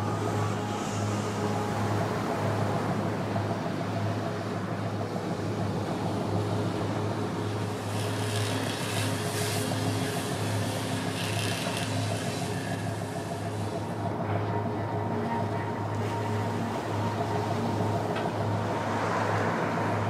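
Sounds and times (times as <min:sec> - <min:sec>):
large engine humming: 0:00.0 - 0:20.0.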